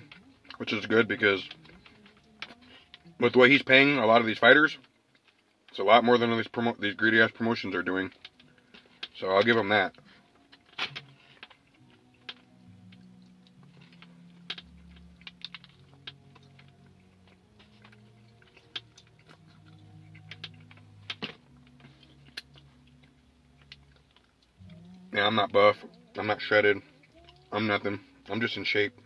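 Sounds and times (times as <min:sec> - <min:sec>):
eating sounds: 0:00.0 - 0:05.7, 0:06.3 - 0:29.0
faint music of low notes: 0:00.0 - 0:29.0.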